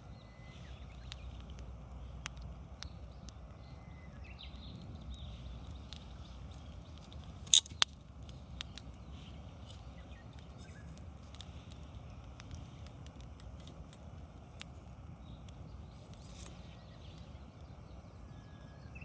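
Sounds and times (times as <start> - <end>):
low steady rumble: 0.0 - 19.0
wood fire crackling: 0.0 - 19.0
fire popping sharply: 0.4 - 17.6.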